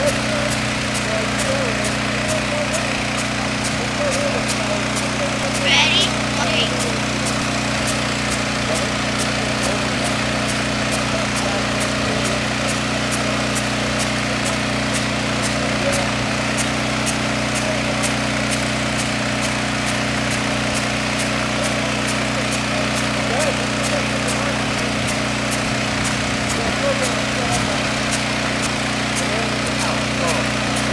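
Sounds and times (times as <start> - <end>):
high-pressure hose stream: 0.0 - 5.6, 6.2 - 30.9
engine-driven water pump running: 0.0 - 30.9.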